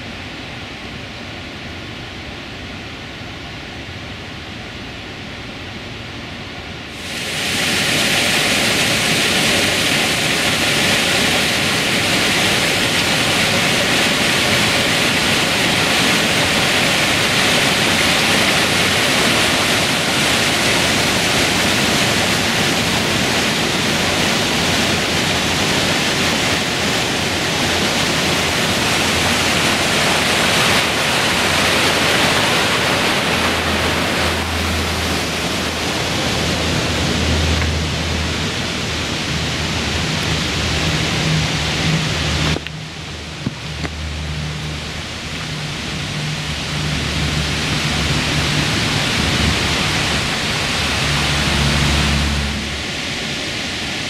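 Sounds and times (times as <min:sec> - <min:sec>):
waterfall rushing: 0:06.9 - 0:54.0.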